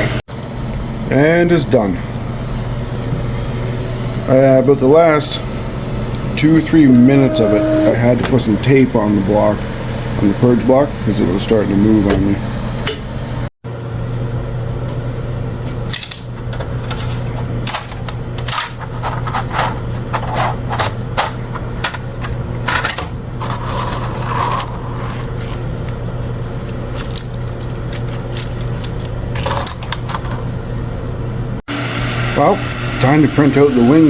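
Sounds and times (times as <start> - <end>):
steady fan hum: 0.0 - 34.0.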